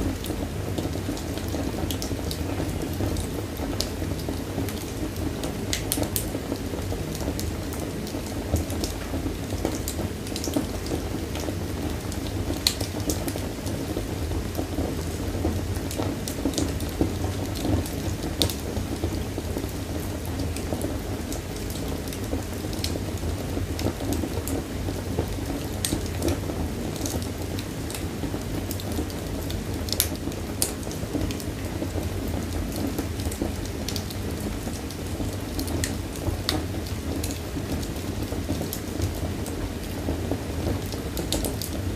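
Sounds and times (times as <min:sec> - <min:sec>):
fire crackling and popping: 0:00.1 - 0:41.9
flames rushing: 0:00.1 - 0:41.9.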